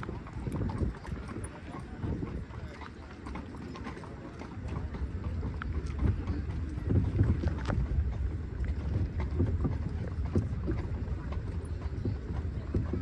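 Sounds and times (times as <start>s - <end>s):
carriage wheels rumbling on pavement: 0.0s - 13.0s
hooves clopping: 0.0s - 13.0s
wind on microphone: 0.0s - 13.0s.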